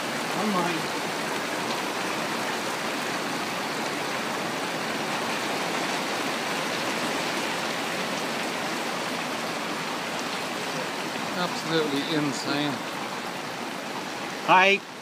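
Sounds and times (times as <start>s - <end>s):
heavy rain on shelter roof: 0.0s - 15.0s.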